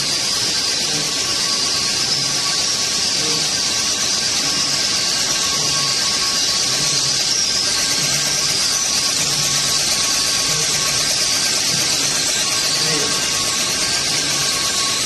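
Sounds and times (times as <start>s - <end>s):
machine hissing: 0.0s - 15.0s
thin steady whine: 0.0s - 15.0s.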